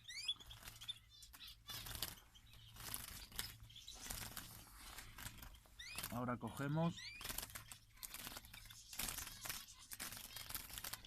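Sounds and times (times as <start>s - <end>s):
birds fluttering in a wire cage: 0.0s - 11.0s.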